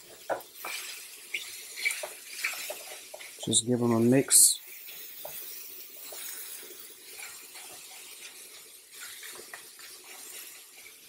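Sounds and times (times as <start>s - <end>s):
spatula scraping frying pan: 0.0s - 3.5s, 4.7s - 11.0s
faint frying hiss: 0.0s - 11.0s.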